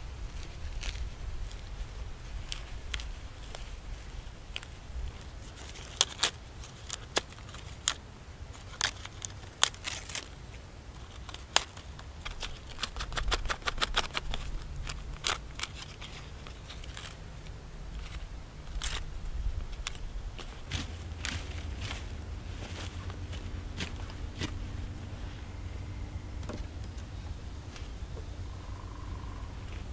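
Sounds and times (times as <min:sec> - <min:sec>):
dry bark crackling and rustling: 0:00.0 - 0:29.9.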